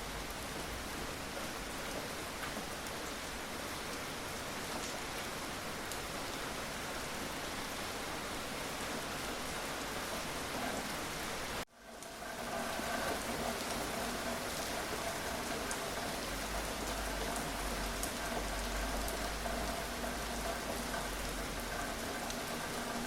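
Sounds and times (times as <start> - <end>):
rain on a surface: 0.0 - 23.0.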